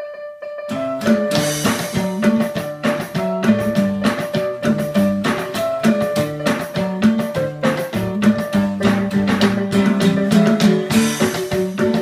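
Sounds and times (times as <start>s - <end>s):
keyboard chords: 0.0s - 12.0s
bass line: 0.8s - 12.0s
drum beat: 0.8s - 12.0s.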